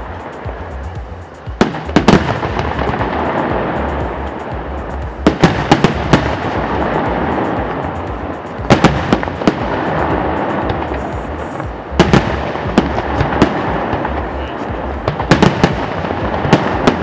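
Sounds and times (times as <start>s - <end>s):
fireworks banging: 0.0s - 17.0s
fireworks rumble and crackle: 0.0s - 17.0s
music: 0.0s - 17.0s.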